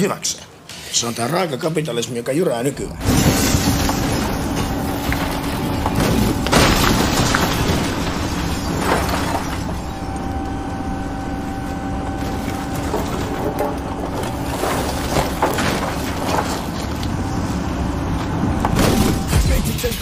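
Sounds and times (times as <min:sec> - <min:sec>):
excavator engine running: 0:02.8 - 0:20.0
timber and debris cracking: 0:03.0 - 0:20.0.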